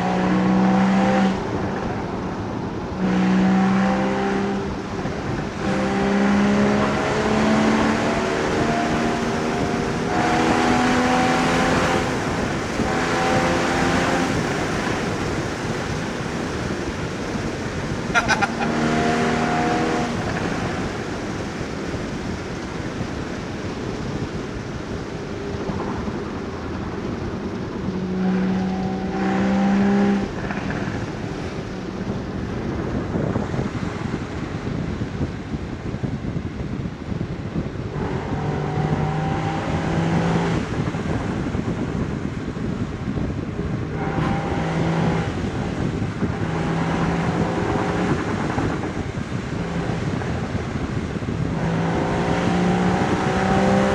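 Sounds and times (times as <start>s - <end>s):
car exhaust revving: 0.0s - 34.9s, 37.6s - 53.9s
wind and road noise: 0.0s - 53.9s.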